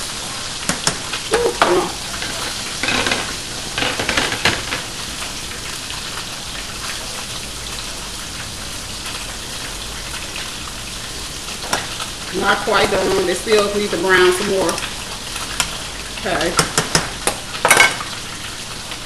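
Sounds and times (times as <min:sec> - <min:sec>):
fries sizzling in hot oil: 0:00.0 - 0:19.0.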